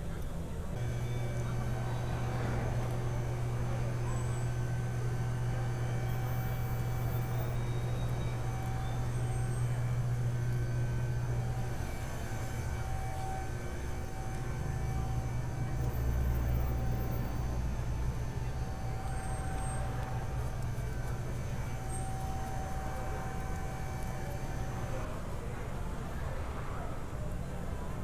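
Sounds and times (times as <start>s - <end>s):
diesel engine idling: 0.7s - 25.1s.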